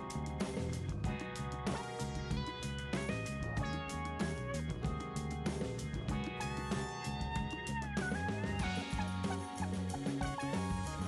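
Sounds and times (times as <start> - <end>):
guitar: 0.0 - 11.0
steady drum beat: 0.0 - 11.0.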